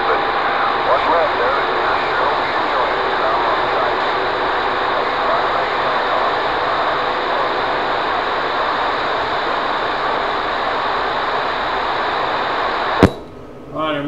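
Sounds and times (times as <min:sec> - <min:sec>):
radio static hiss: 0:00.0 - 0:13.3.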